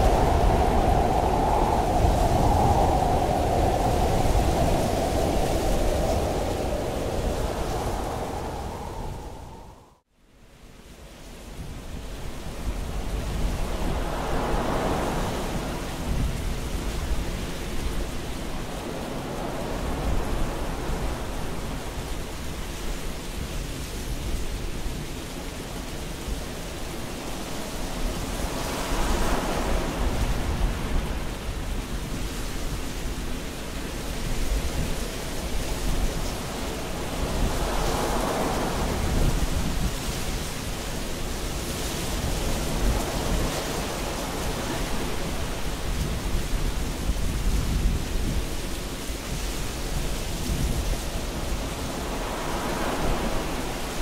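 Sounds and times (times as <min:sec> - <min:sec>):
steady rain hiss: 0:00.0 - 0:09.8, 0:10.9 - 0:54.0.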